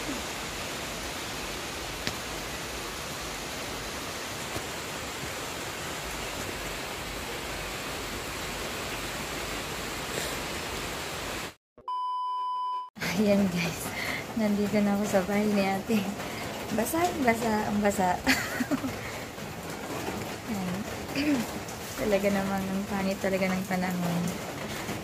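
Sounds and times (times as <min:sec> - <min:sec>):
steady rain: 0:00.0 - 0:11.6, 0:13.0 - 0:25.0.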